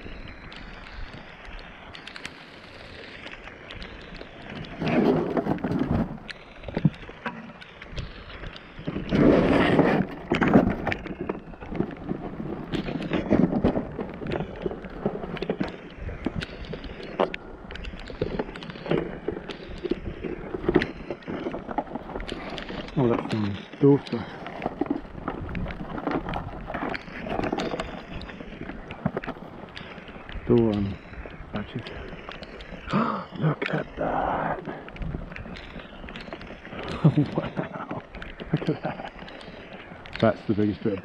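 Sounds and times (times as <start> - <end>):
rain: 0.0 - 41.0.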